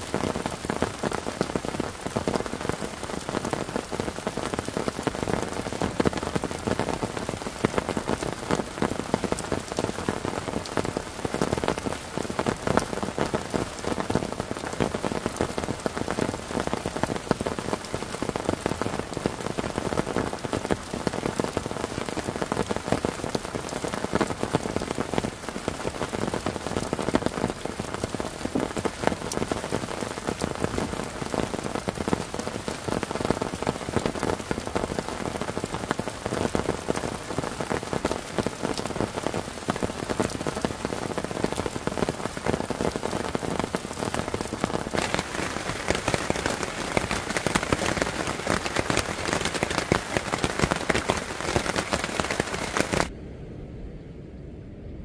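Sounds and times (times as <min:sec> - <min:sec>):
heavy rain: 0:00.0 - 0:53.1
raindrops hitting wet wooden deck: 0:00.0 - 0:53.1.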